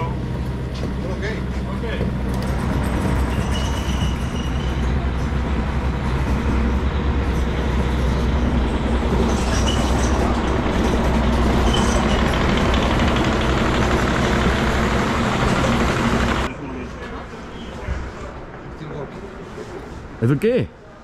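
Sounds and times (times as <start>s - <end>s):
low engine rumble: 0.0s - 20.2s.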